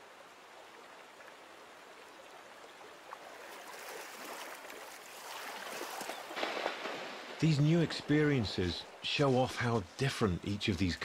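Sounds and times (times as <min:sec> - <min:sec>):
river water running over shallows: 0:00.0 - 0:11.0.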